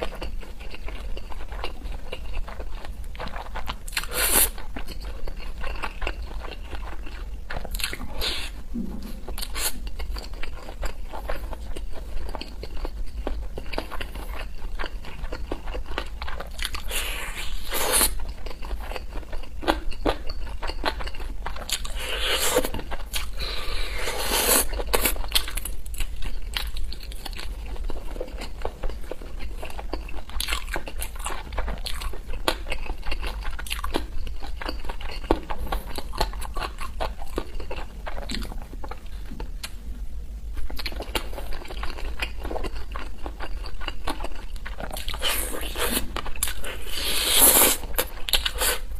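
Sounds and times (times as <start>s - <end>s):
chewing and biting meat: 0.0s - 39.8s.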